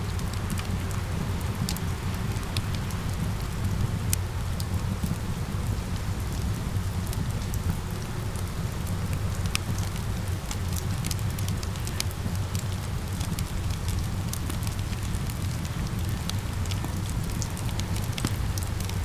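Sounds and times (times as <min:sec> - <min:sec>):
fireplace crackling: 0:00.0 - 0:19.0
rain: 0:00.0 - 0:19.0.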